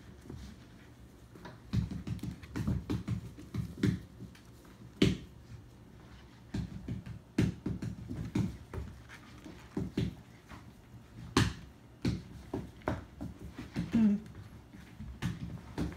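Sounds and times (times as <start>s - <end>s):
puppies scampering on floor: 0.0s - 15.9s.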